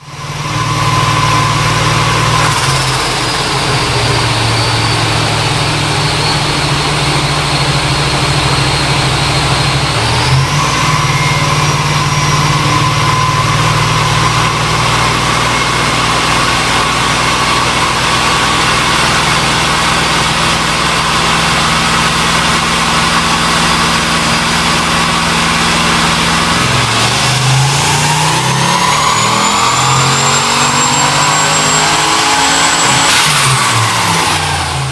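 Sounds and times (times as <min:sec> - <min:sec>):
car engine running on dyno: 0:00.0 - 0:34.9
high turbo whine: 0:00.0 - 0:34.9.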